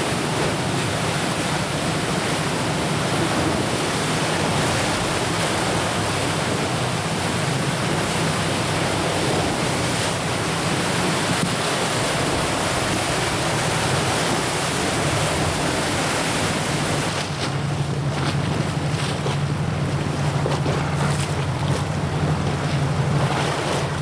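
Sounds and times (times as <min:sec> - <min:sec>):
steady rushing noise: 0:00.0 - 0:20.2.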